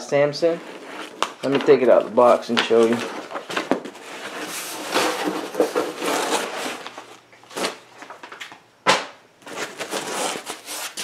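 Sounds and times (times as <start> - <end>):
foam and cardboard rustling: 0.0 - 8.4, 9.4 - 11.0.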